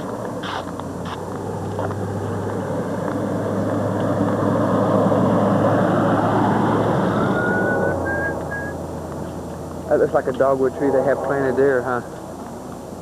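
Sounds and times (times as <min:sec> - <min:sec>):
vehicle passing on road: 0:00.0 - 0:13.0.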